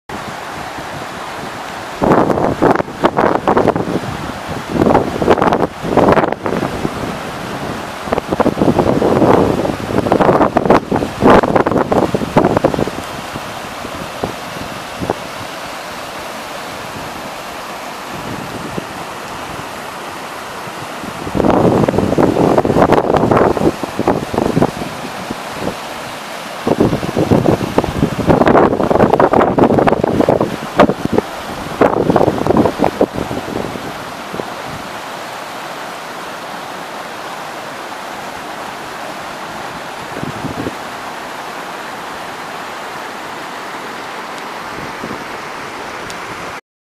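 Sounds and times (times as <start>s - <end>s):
stream rushing over rocks: 0.1s - 46.6s.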